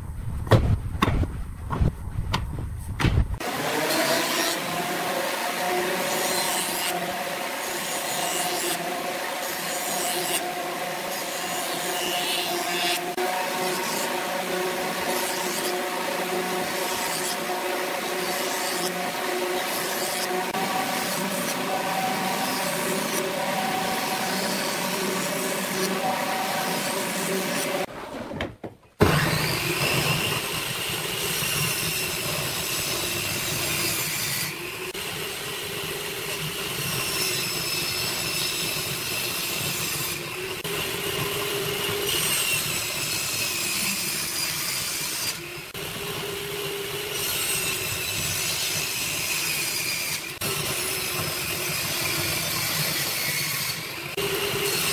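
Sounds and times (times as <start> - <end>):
table saw cutting boards: 3.4 - 54.9.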